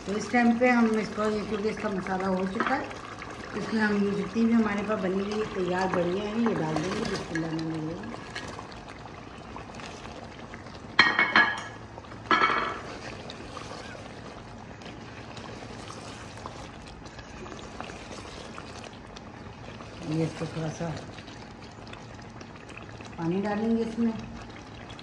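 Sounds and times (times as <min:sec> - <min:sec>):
gravy bubbling in a pot: 0:00.0 - 0:25.0.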